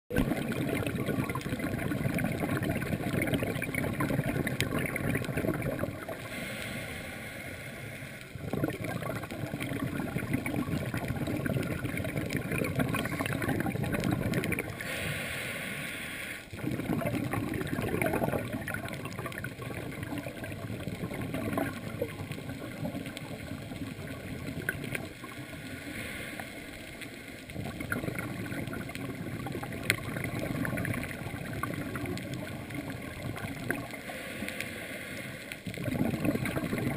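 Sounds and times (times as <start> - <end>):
underwater bubbles gurgling: 0.1 - 36.9.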